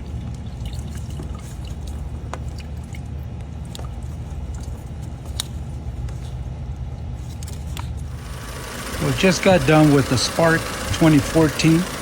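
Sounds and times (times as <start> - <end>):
low engine-like rumble: 0.0 - 12.0.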